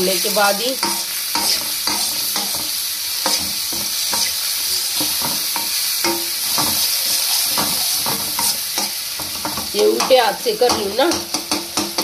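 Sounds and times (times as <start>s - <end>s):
food sizzling in oil: 0.0s - 12.0s
metal spoon scraping pan: 0.7s - 12.0s.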